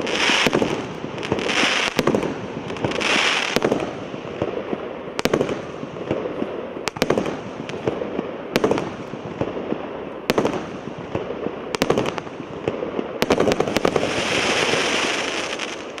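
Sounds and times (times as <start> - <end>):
firework bangs: 0.0 - 16.0
firework crackling: 0.0 - 16.0
hissing crackle: 0.0 - 16.0.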